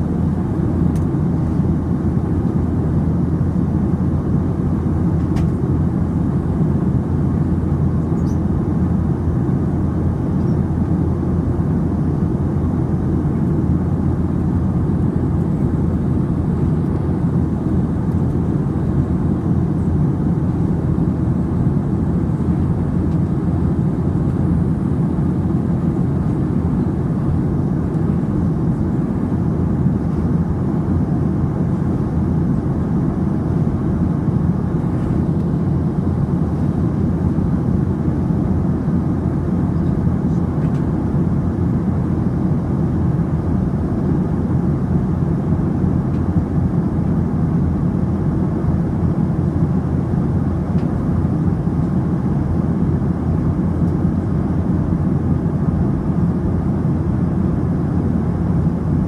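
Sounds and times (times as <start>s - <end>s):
airliner cabin engine and airflow noise: 0.0s - 59.0s.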